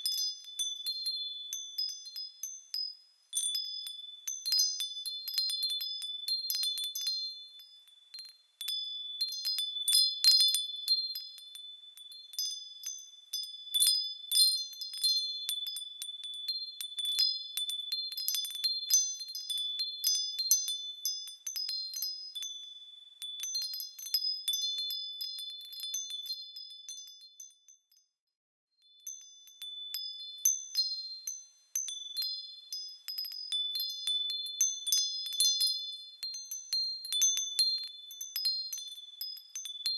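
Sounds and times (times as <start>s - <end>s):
small metal bells tinkling: 0.0s - 39.9s.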